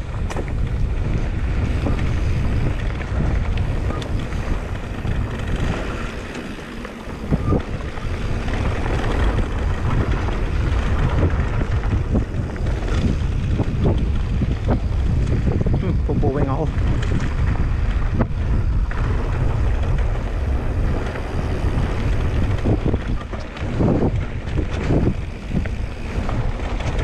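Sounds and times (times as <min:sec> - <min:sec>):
bike knocks and rattles: 0:00.0 - 0:15.8, 0:16.5 - 0:27.0
wind rumbling on microphone: 0:00.0 - 0:27.0.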